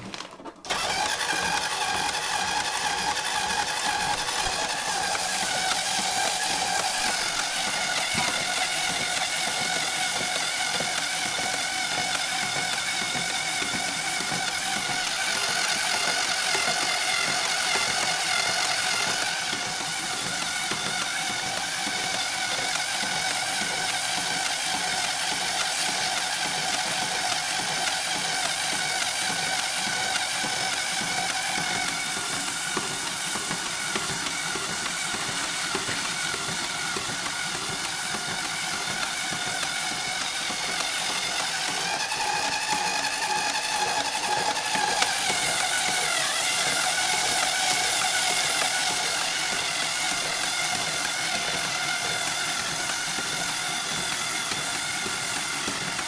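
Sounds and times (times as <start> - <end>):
electric screwdriver motor whine: 0.1 - 56.0
sandpaper hissing on pipe: 1.4 - 56.0.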